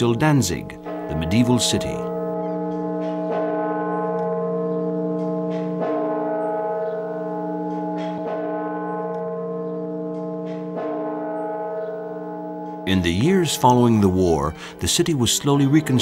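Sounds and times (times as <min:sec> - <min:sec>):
tolling bell: 0:00.0 - 0:16.0.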